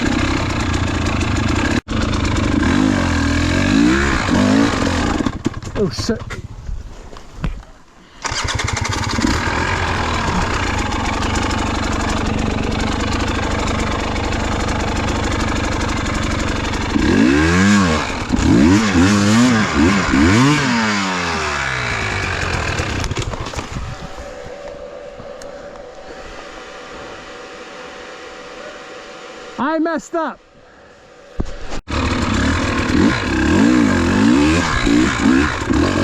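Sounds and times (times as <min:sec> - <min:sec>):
motorcycle engine revving: 0:00.0 - 0:06.9, 0:08.2 - 0:29.6, 0:31.1 - 0:36.0.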